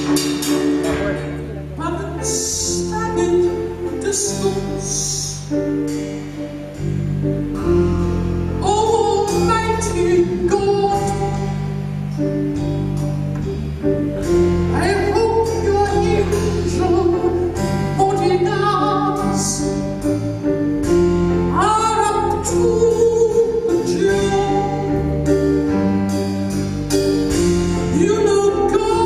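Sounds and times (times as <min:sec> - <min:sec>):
bass line: 0:00.0 - 0:29.0
drums: 0:00.0 - 0:29.0
keyboard chords: 0:00.0 - 0:29.0.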